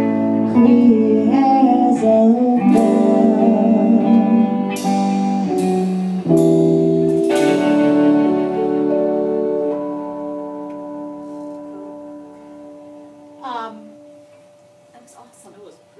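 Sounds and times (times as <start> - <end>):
band guitars playing chords: 0.0 - 15.6.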